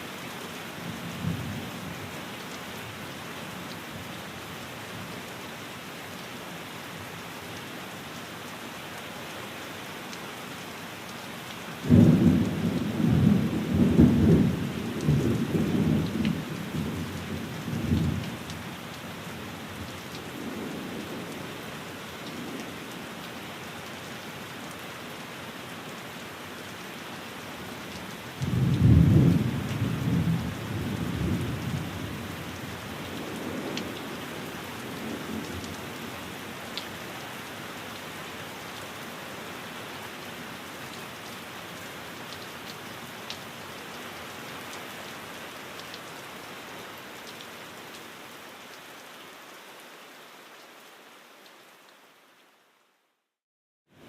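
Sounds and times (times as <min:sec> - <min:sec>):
rain on a window: 0:00.0 - 0:53.3.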